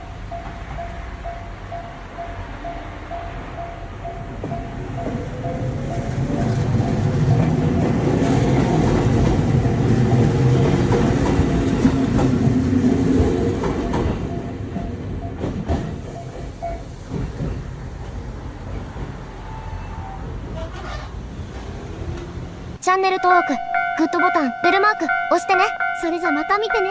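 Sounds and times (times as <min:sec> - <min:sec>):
wheels clacking over rail joints: 0:00.0 - 0:22.7
electric train rumbling on rails: 0:00.0 - 0:26.9.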